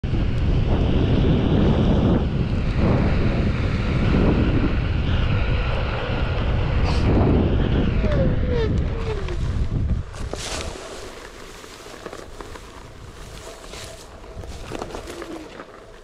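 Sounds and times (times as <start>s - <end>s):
hub motor falling whine: 0.0s - 16.0s
wind buffeting microphone: 0.0s - 16.0s
board wheel rumbling on pavement: 0.1s - 16.0s.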